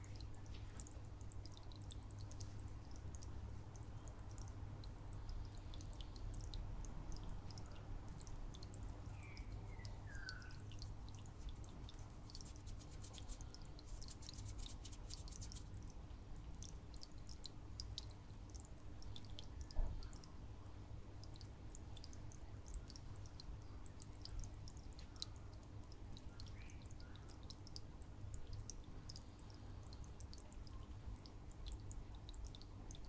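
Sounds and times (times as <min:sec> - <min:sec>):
aquarium water trickling: 0:00.0 - 0:33.0
low steady hum: 0:00.0 - 0:33.0.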